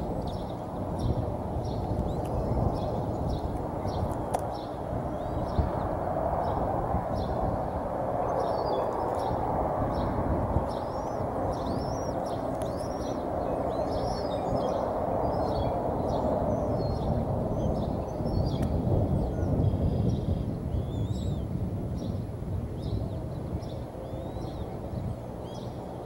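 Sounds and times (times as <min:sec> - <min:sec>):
birds chirping: 0:00.0 - 0:26.0
steady outdoor rush: 0:00.0 - 0:26.0.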